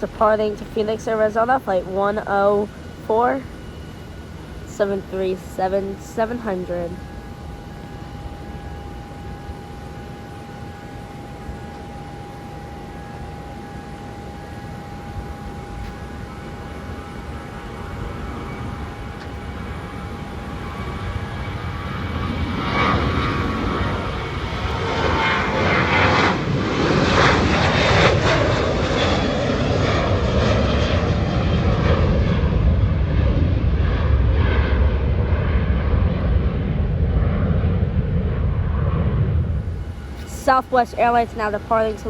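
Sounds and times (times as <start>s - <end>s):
jet engine roar: 0.0s - 42.0s
jet engine whine: 0.0s - 42.0s.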